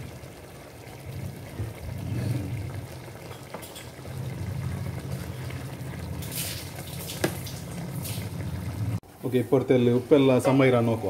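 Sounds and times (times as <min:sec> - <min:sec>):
pot simmering: 0:00.0 - 0:11.0.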